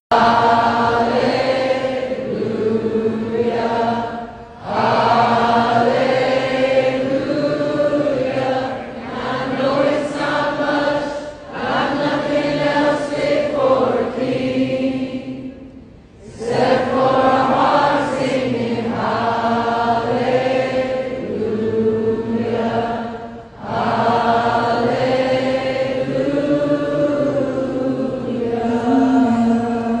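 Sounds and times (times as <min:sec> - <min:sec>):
voices chanting in held tones: 0:00.1 - 0:30.0.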